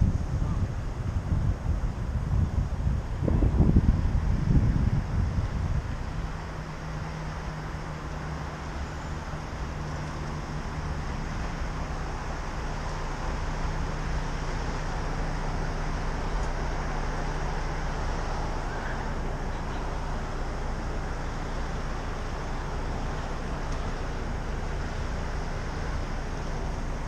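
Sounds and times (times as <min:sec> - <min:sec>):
city road traffic: 0:00.0 - 0:27.0.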